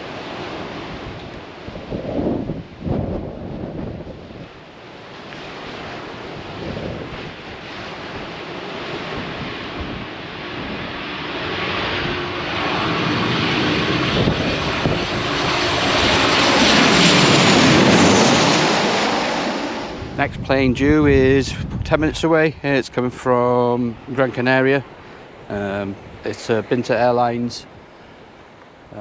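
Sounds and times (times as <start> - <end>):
faint steady whine: 0.0 - 29.0
jet airliner engine noise: 0.0 - 29.0.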